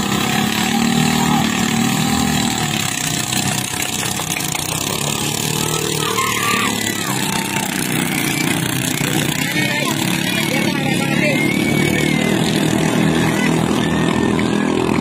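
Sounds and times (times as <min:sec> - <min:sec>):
racing boat engines droning: 0:00.0 - 0:15.0.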